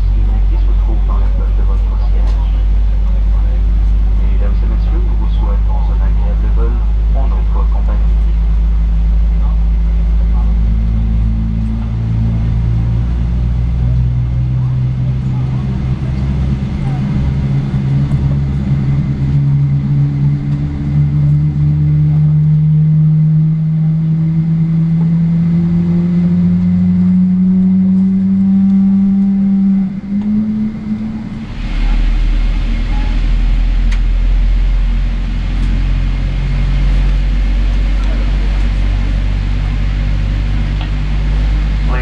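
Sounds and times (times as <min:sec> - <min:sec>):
deep cabin rumble: 0:00.0 - 0:42.0
jet engine spooling up whine: 0:00.0 - 0:42.0.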